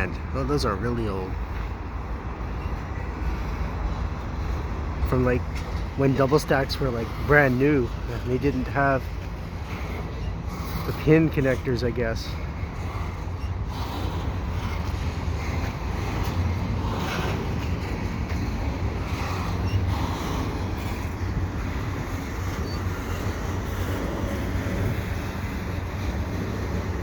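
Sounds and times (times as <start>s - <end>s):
freight train wheels rumbling on rails: 0.0s - 27.0s.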